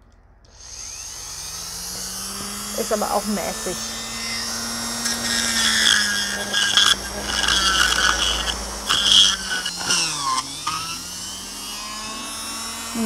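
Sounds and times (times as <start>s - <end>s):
rotary tool whining: 0.0s - 13.0s
bit grinding wood: 0.4s - 13.0s.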